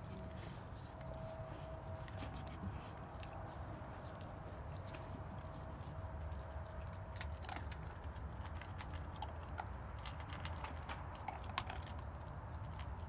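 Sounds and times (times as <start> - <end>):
dogs crunching dry kibble: 0.0 - 13.0.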